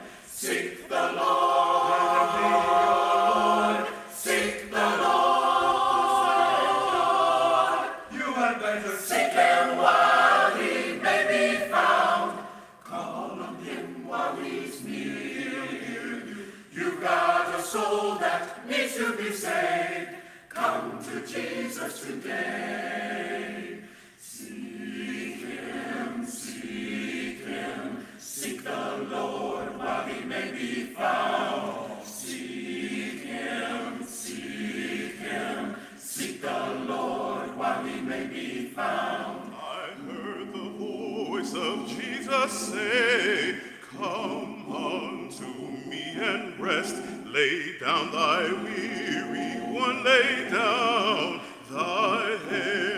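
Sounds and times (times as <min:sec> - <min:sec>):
choir singing a cappella: 0:00.0 - 0:52.9.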